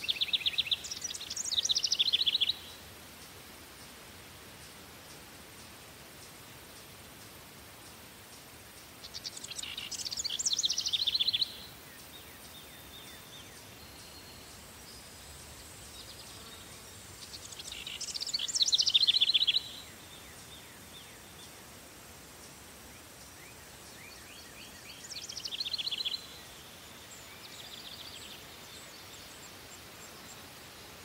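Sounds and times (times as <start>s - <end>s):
songbird singing: 0.0s - 31.0s.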